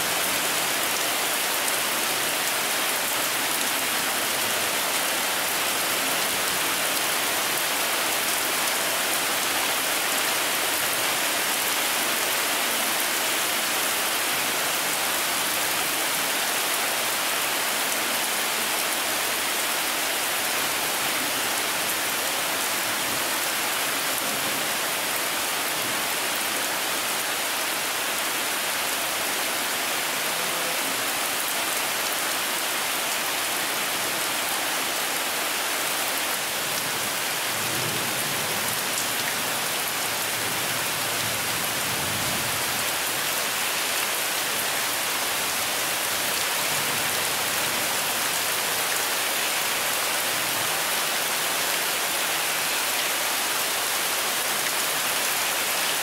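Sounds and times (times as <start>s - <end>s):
rain falling on ground: 0.0s - 56.0s.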